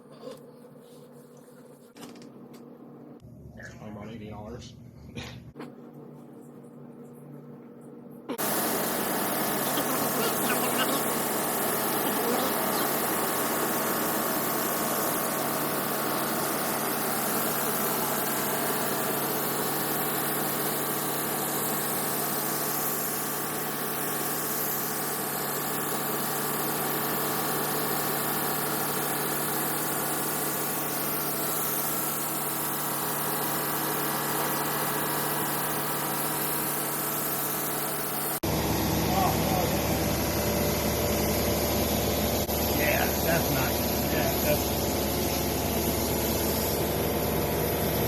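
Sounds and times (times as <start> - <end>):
motor humming with airy hiss: 8.3 - 48.0.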